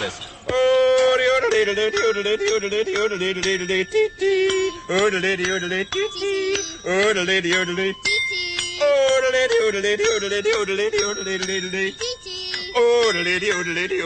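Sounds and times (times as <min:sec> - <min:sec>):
jingling bells: 0:00.7 - 0:14.0
pitched lead melody: 0:00.7 - 0:14.0.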